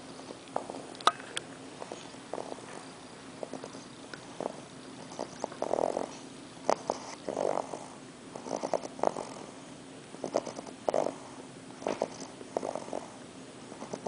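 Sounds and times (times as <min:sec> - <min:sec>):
puppy snoring: 0:00.0 - 0:01.0, 0:01.8 - 0:14.0.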